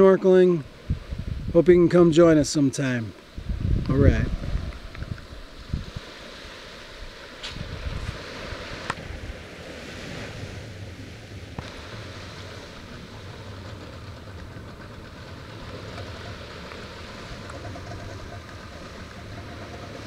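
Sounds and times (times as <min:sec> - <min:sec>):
waves lapping on beach: 0:00.0 - 0:20.0
wind on microphone: 0:00.7 - 0:02.5, 0:03.3 - 0:20.0.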